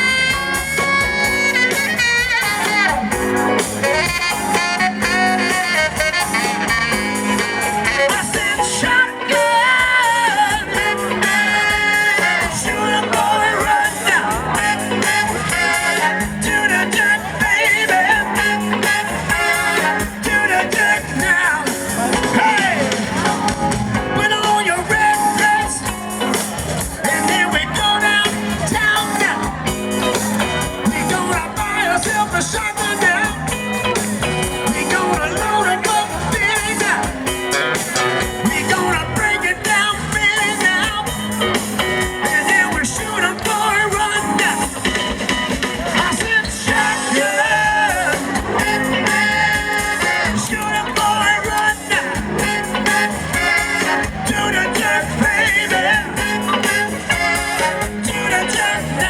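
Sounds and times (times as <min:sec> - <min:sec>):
horn section: 0:00.0 - 0:59.0
person singing: 0:00.0 - 0:59.0
soul band playing: 0:00.0 - 0:59.0.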